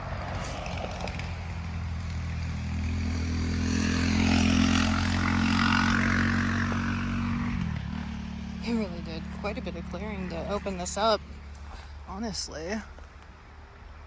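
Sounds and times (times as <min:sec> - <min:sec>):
passing engine drone: 0:00.0 - 0:12.3.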